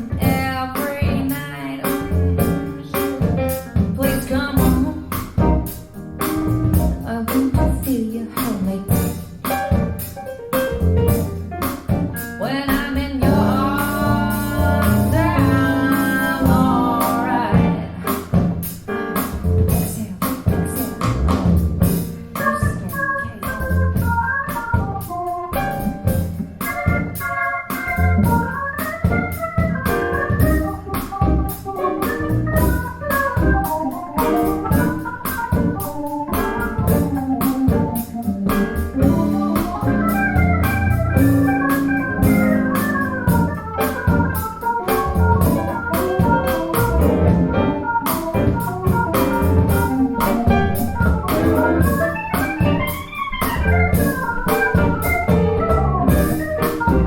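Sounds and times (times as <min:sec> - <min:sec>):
instrumental music over loudspeakers: 0:00.0 - 0:57.0.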